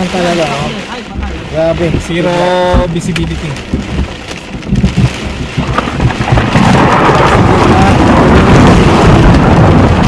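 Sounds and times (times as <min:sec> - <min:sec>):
rain and hail on car roof: 0:00.0 - 0:10.0.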